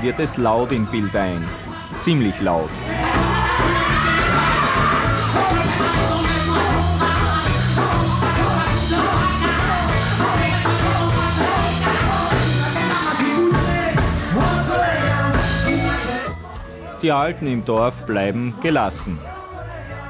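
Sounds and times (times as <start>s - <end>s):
drums: 0.0s - 18.1s
bass line: 0.0s - 20.0s
person singing: 0.0s - 20.0s
rock band playing: 1.5s - 18.0s.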